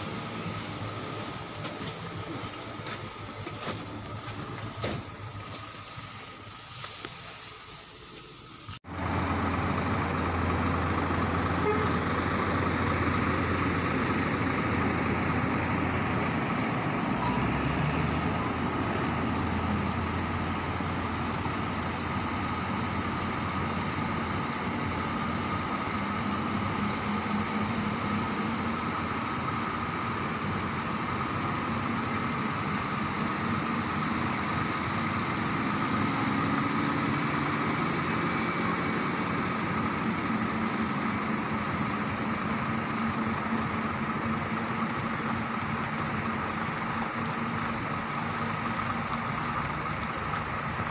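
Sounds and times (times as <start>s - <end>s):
diesel truck engines droning: 0.0s - 50.9s.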